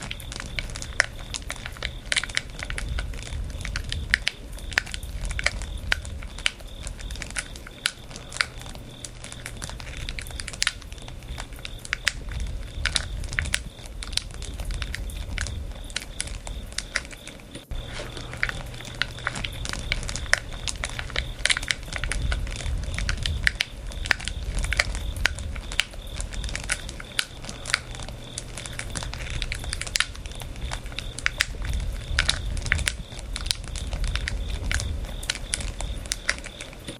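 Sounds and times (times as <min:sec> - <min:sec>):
campfire crackling and popping: 0:00.0 - 0:36.9
low rumble of flames: 0:00.0 - 0:36.9.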